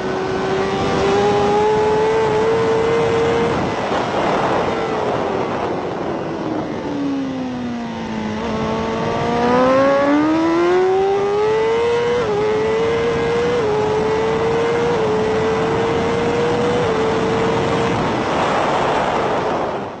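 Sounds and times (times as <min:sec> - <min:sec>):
motorcycle engine revving: 0:00.0 - 0:19.9
wind rush: 0:00.0 - 0:20.0.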